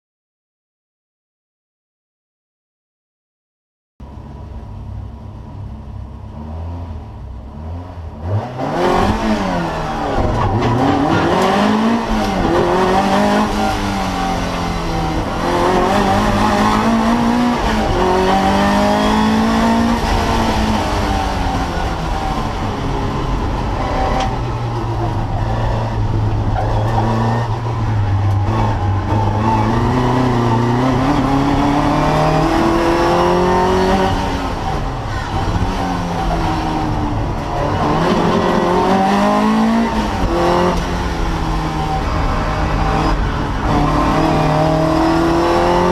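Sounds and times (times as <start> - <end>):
car engine revving: 6.2 - 45.9.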